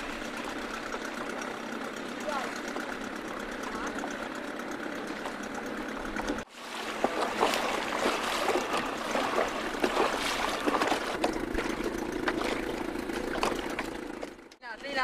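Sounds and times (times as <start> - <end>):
water slapping boat hull: 0.0 - 14.6
boat motor hum: 0.0 - 15.0.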